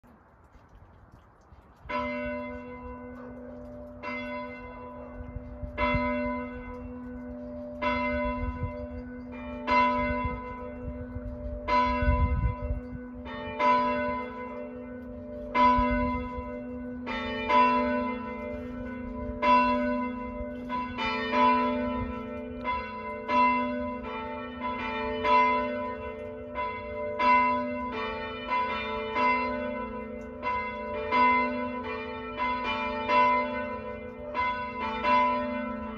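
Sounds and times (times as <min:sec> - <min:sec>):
church bells ringing: 0:01.8 - 0:35.9.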